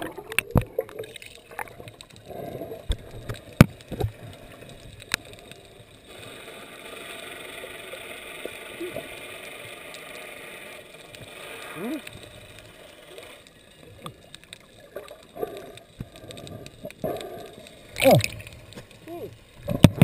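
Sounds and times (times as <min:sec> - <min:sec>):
faint underwater hiss: 0:00.0 - 0:20.0.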